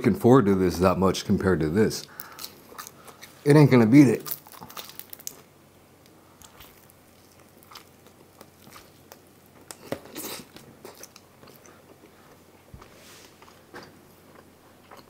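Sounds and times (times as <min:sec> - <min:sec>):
pizza crust crunch: 0:01.9 - 0:05.5, 0:06.4 - 0:15.0
person chewing pizza: 0:02.0 - 0:03.4, 0:04.1 - 0:15.0.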